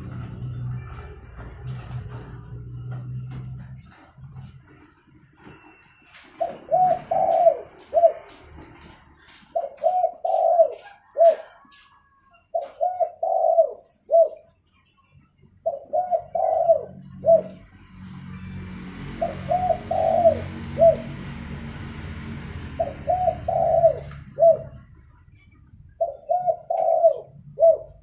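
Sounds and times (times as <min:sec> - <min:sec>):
dove cooing: 0:00.0 - 0:14.6, 0:15.6 - 0:18.0, 0:18.9 - 0:25.2, 0:25.9 - 0:28.0.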